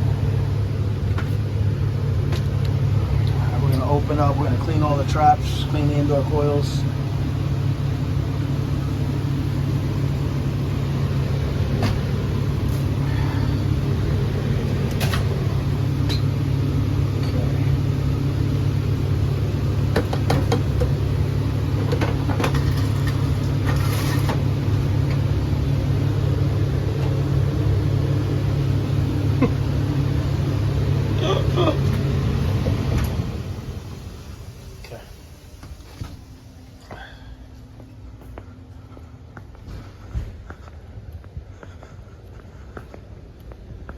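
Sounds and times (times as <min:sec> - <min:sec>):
air conditioner humming: 0:00.0 - 0:43.9.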